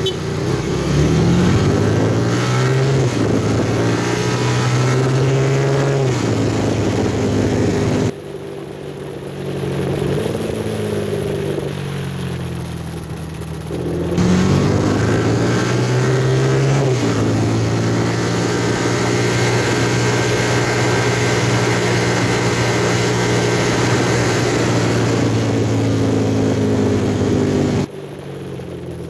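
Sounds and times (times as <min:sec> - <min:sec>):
vehicle engine running at speed: 0:00.0 - 0:29.0.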